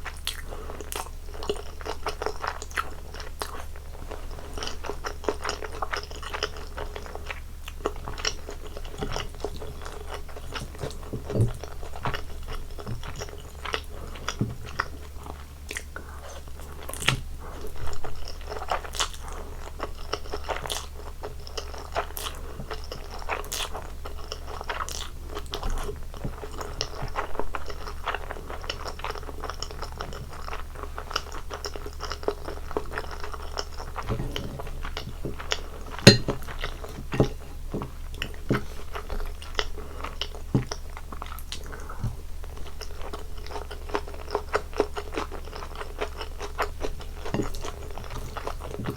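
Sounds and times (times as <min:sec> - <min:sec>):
person chewing and biting food: 0:00.0 - 0:03.7, 0:04.5 - 0:48.9.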